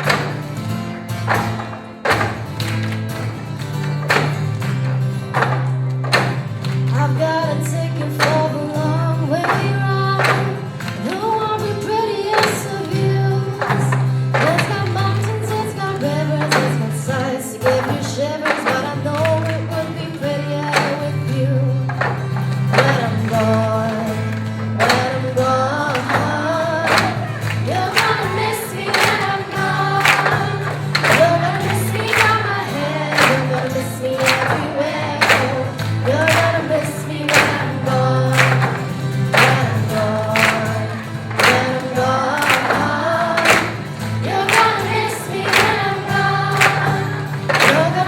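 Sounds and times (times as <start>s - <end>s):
voices singing together: 6.1s - 48.0s.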